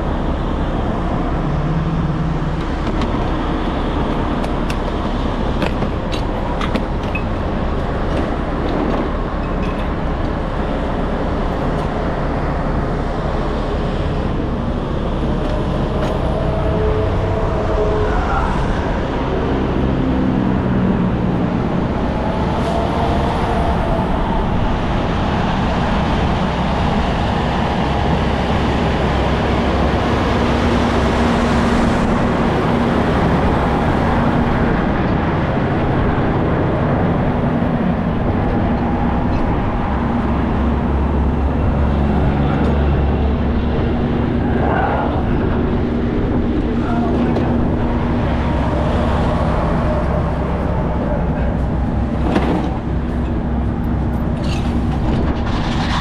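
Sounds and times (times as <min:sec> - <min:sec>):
traffic driving past: 0:00.0 - 0:56.0.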